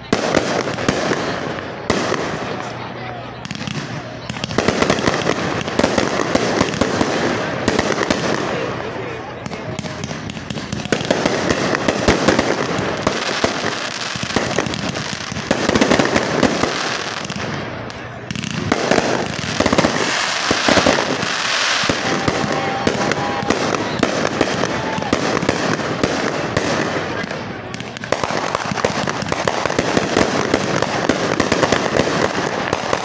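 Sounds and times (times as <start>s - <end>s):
fireworks crackling and banging: 0.0s - 33.0s.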